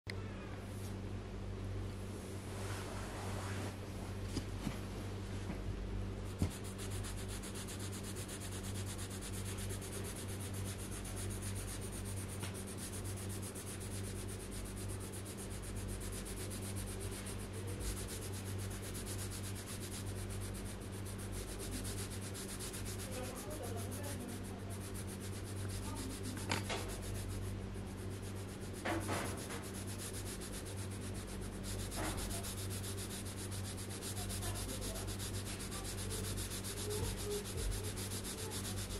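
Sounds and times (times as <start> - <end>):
steady low hum: 0.1 - 38.9
pencil scratching on paper: 6.3 - 38.9.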